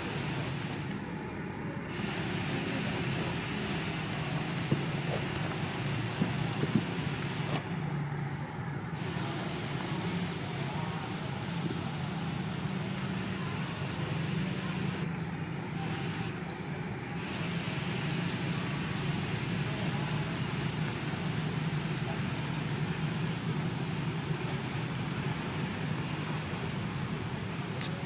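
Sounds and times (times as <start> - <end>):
constant low hum: 0.0 - 28.0.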